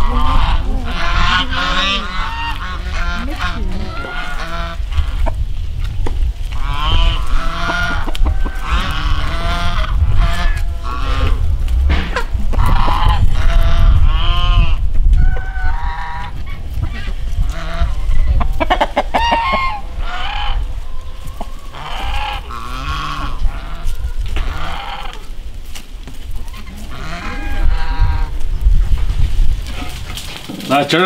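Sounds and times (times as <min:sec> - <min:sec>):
fowl calling: 0:00.0 - 0:05.4, 0:06.5 - 0:25.4, 0:26.4 - 0:28.6
steady low rumble: 0:00.0 - 0:30.5.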